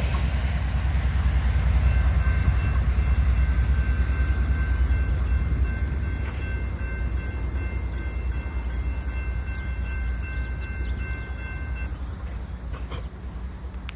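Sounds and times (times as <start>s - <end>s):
train passing with low rumble: 0.0s - 13.9s.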